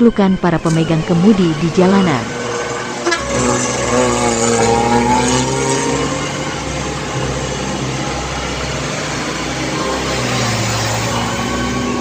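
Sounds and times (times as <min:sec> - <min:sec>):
diesel truck engines droning: 0:00.0 - 0:12.0
truck passing close: 0:00.0 - 0:12.0.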